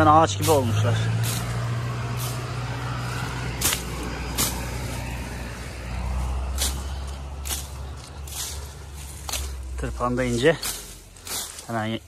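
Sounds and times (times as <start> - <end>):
low engine hum: 0.0 - 12.0
sickle swishing through weeds: 0.0 - 12.0.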